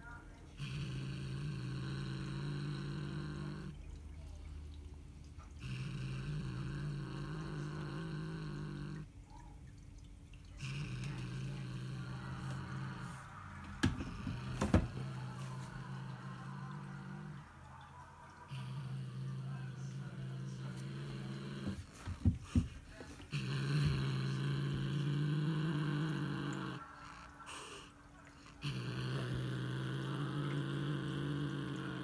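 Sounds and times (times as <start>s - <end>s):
cat growling: 0.0s - 4.7s, 5.4s - 9.4s, 10.4s - 32.0s.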